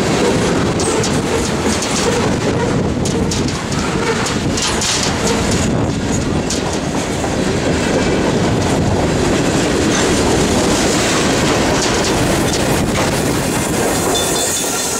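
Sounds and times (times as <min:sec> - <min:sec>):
train cars rumbling past: 0:00.0 - 0:14.9
wheels clacking over rail joints: 0:00.0 - 0:14.9.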